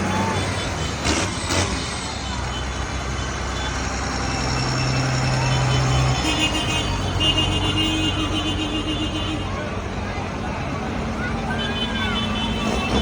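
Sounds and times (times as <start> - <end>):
tractor engines running: 0.0 - 13.0.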